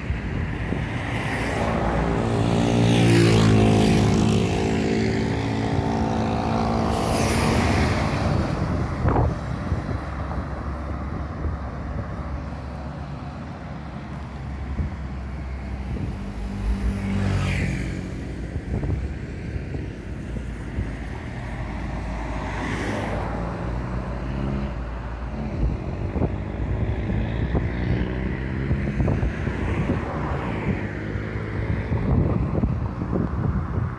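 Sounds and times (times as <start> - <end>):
vehicles passing close by: 0.0 - 33.9.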